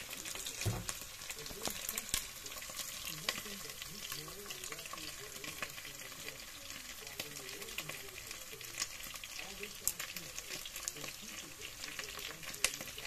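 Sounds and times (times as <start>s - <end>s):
meat frying in a pot: 0.0s - 13.0s.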